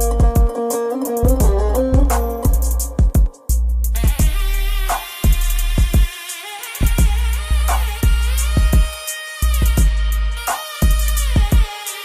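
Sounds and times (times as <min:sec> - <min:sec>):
music with heavy bass-drum beat: 0:00.0 - 0:12.0.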